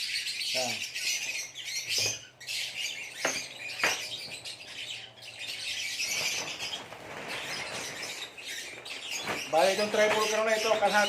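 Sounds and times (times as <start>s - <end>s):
lovebirds chattering and chirping: 0.0s - 11.0s.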